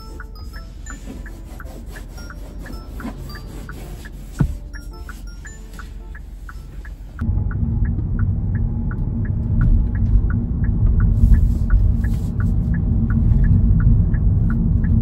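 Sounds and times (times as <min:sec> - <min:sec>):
car engine and road noise: 0:00.0 - 0:15.0
turn signal ticking: 0:00.0 - 0:15.0.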